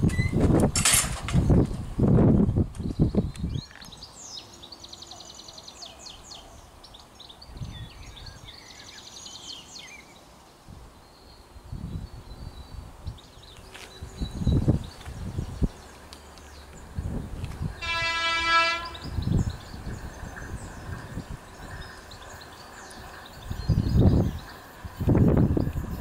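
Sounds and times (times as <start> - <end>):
wind buffeting microphone: 0.0 - 4.5, 7.2 - 9.3, 10.6 - 26.0
songbird singing rapid trills: 2.8 - 17.8, 18.7 - 26.0.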